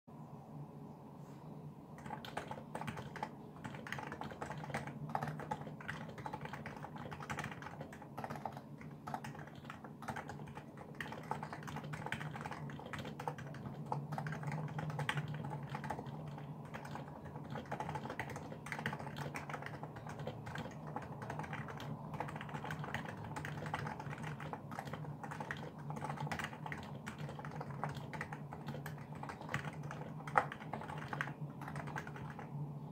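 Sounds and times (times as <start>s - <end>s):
fast keyboard typing: 2.0s - 32.6s.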